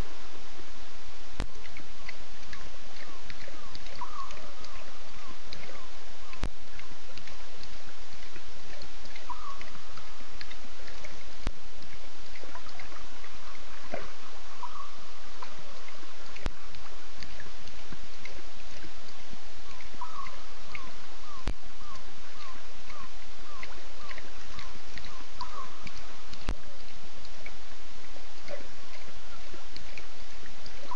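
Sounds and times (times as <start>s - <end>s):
steady night hiss: 0.0s - 30.9s.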